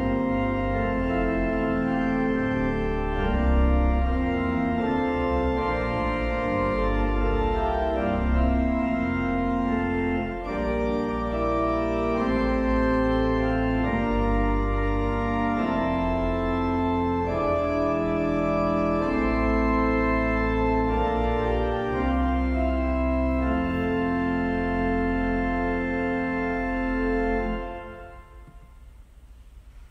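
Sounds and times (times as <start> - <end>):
pipe organ chords: 0.0 - 29.9.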